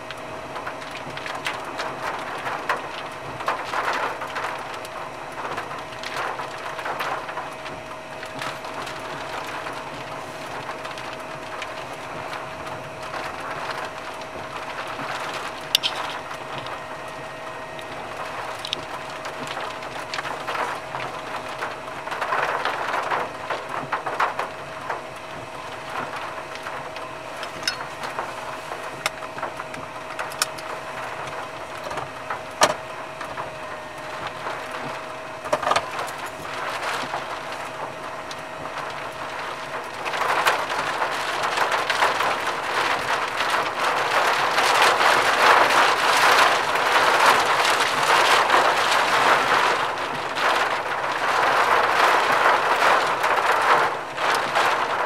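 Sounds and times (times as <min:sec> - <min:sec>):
rain pattering on a vehicle: 0:00.0 - 0:55.0.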